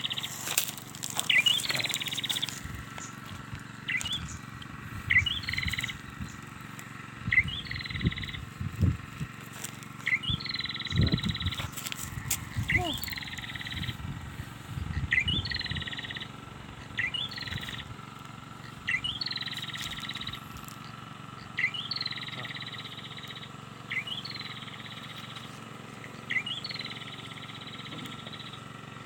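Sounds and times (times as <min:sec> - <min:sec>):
bird calling with buzzy trill: 0:00.0 - 0:29.0.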